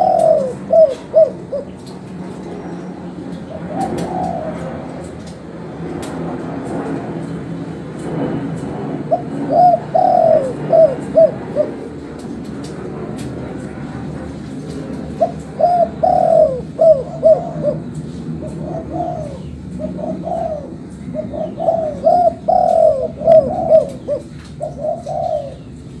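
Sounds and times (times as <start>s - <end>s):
dove cooing: 0.0s - 5.8s, 6.4s - 26.0s
low background noise: 0.0s - 26.0s.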